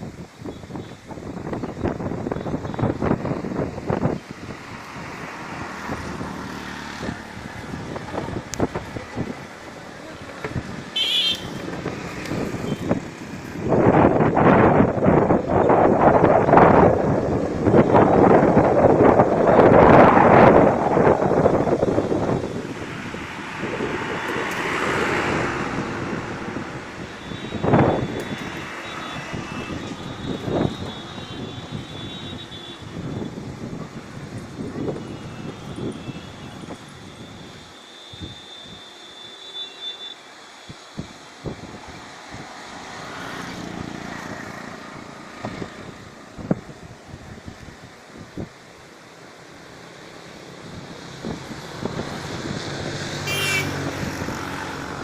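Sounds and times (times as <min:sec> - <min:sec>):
strong wind buffeting microphone: 0:00.0 - 0:38.9, 0:40.9 - 0:49.0, 0:49.6 - 0:55.0.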